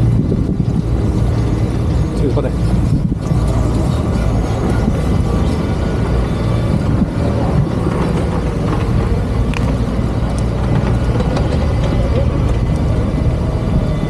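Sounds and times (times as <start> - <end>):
motor vehicles passing: 0.0 - 14.0.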